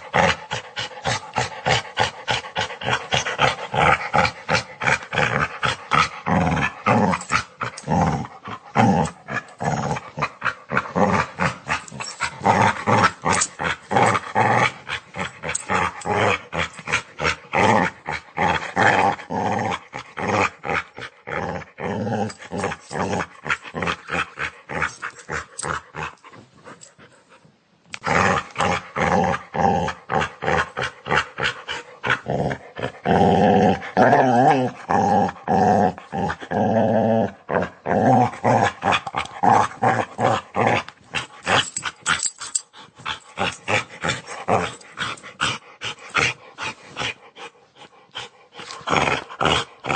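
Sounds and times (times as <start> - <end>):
dog growling: 0.0 - 26.5, 28.0 - 49.9.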